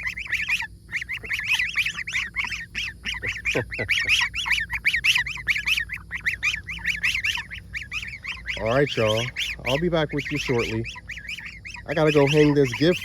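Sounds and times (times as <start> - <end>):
goslings peeping: 0.0 - 13.0
lower falling calls: 0.0 - 13.0.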